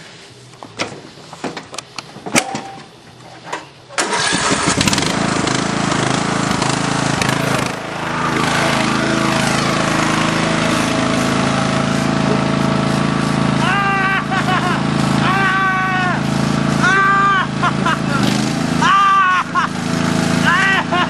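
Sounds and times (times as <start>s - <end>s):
small engine running: 4.0s - 21.0s.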